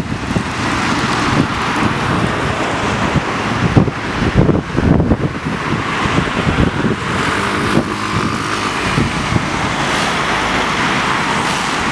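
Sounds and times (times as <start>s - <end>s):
cars passing: 0.0s - 11.9s.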